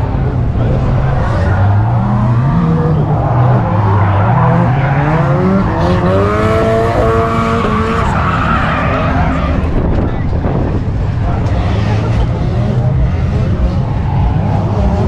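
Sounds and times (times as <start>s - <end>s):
car engines revving: 0.0s - 15.0s
tires squealing: 0.1s - 15.0s.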